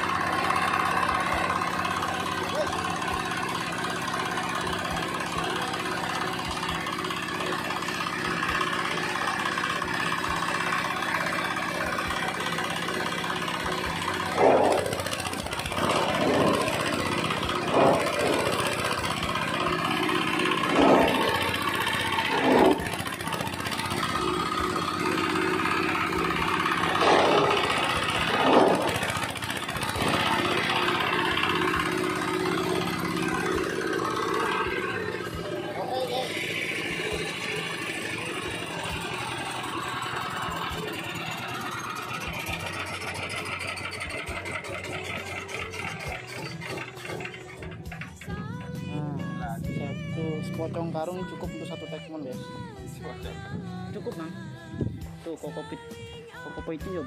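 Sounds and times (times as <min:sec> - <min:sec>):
husk shredder engine running: 0:00.0 - 0:57.0.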